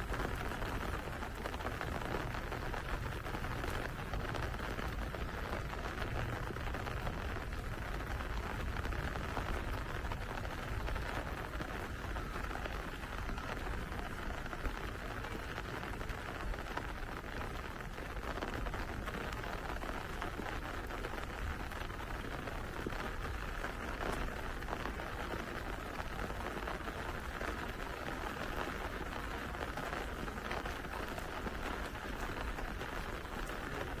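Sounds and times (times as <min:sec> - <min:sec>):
rain falling on street: 0:00.0 - 0:34.0.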